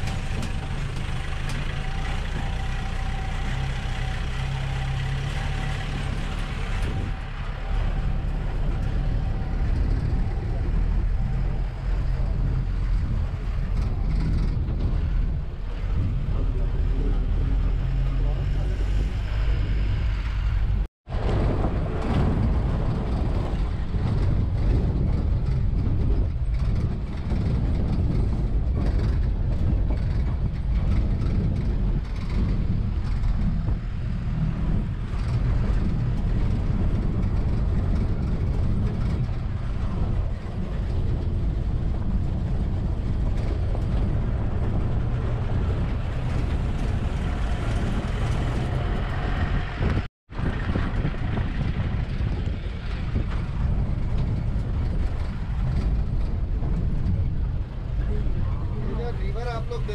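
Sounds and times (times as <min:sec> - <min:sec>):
truck engine and road noise: 0:00.0 - 0:59.9.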